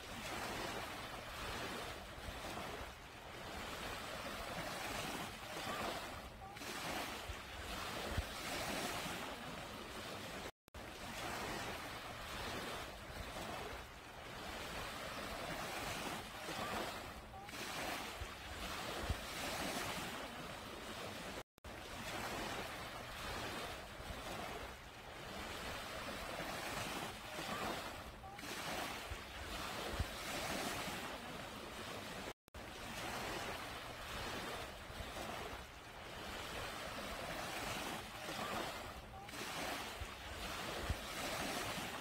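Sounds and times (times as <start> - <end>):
small waves washing up beach: 0.0 - 42.0.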